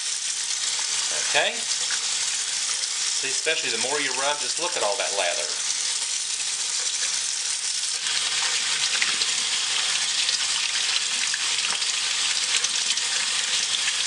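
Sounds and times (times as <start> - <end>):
faucet water running into sink: 0.0 - 14.0.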